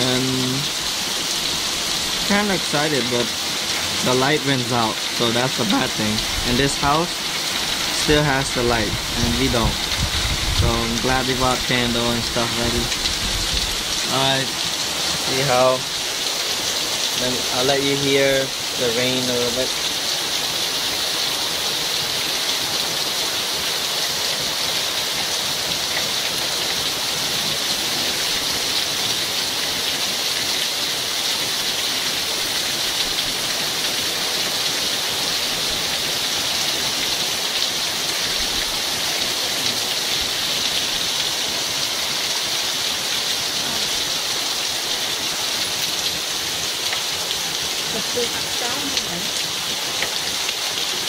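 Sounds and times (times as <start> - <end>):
heavy steady rain: 0.0 - 51.0.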